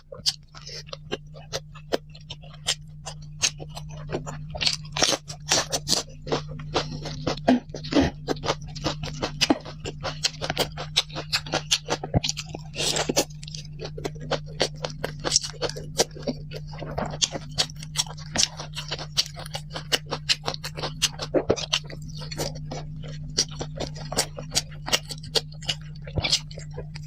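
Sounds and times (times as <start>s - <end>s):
person crunching and chewing food: 0.0s - 27.0s.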